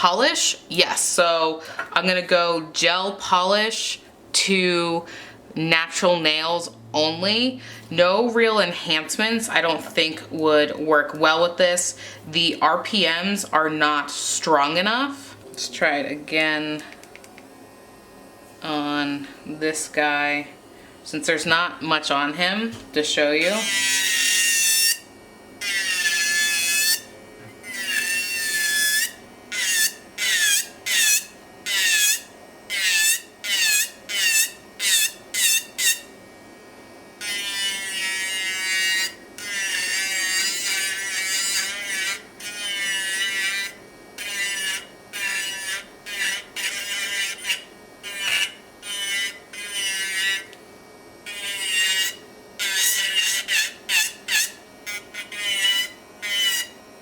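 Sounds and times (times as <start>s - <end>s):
nail file grinding whine: 5.9s - 57.0s
electric nail file humming: 7.0s - 57.0s.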